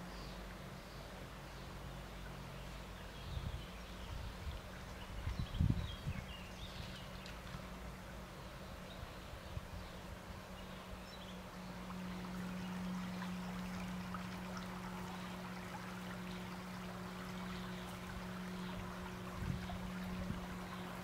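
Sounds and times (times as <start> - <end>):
brook trickling: 0.0 - 21.0
steady low hum: 0.0 - 21.0.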